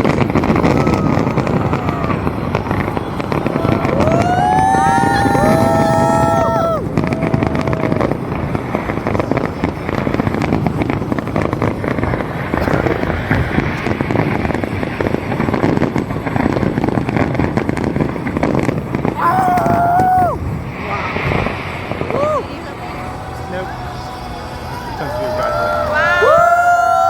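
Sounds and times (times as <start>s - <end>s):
firework whistling: 0.0s - 27.0s
fireworks crackling and popping: 0.0s - 27.0s.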